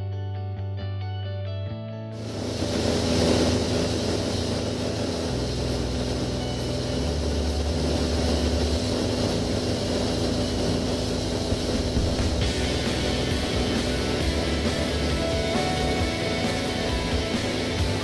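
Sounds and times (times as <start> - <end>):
light aircraft engine drone: 2.2 - 18.0
rushing air hiss: 2.2 - 18.0.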